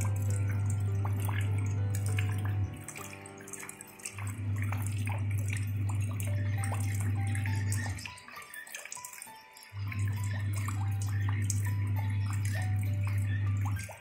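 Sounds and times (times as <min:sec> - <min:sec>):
music with low drone: 0:00.0 - 0:14.0
rain splashing into puddle: 0:00.0 - 0:14.0.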